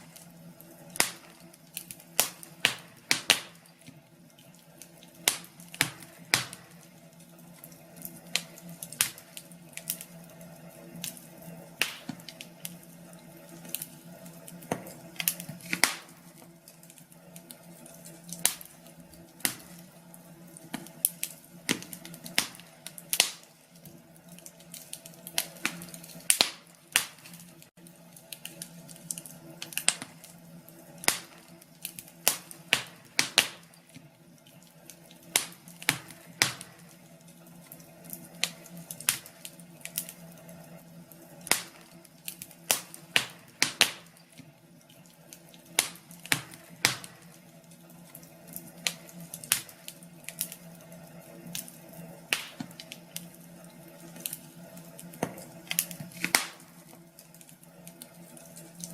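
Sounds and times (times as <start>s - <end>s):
fireplace fire crackling: 0.0s - 58.9s.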